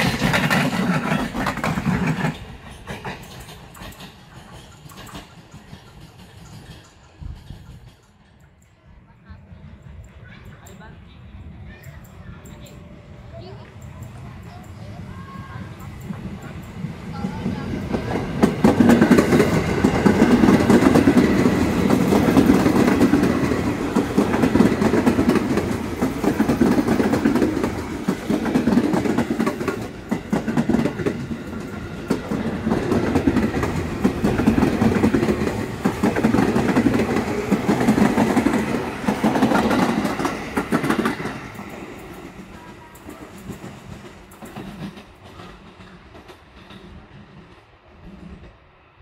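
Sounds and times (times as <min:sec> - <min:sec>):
wheels clacking over rail joints: 0:00.0 - 0:08.7, 0:13.4 - 0:47.6
electric train passing: 0:00.0 - 0:49.0.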